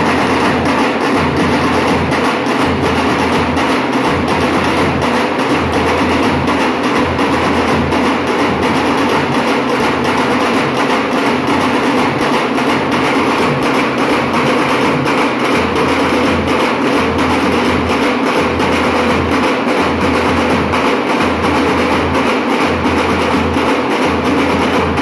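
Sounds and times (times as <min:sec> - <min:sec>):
dhol drums beating fast rhythm: 0:00.0 - 0:25.0.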